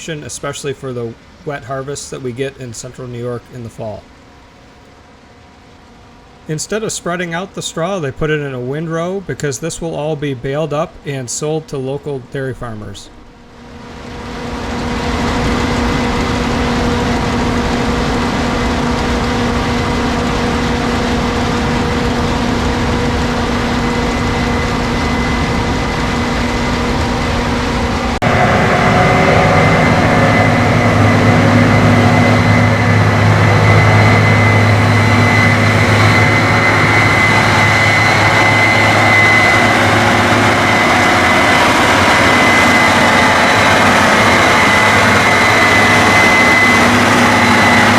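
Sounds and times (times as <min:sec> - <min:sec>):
combine harvester drone: 0:00.0 - 0:47.9
deeper machine hum: 0:00.0 - 0:47.9
machine high whine: 0:00.0 - 0:47.9.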